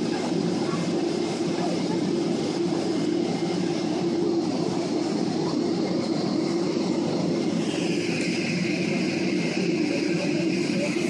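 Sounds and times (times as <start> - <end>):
aircraft engine drone: 0.0 - 11.0
high engine whine: 0.0 - 11.0.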